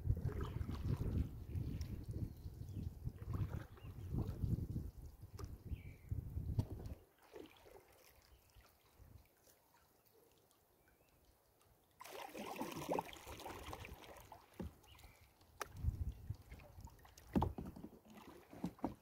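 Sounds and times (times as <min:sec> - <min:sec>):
water splashing around kayak: 0:00.0 - 0:19.0.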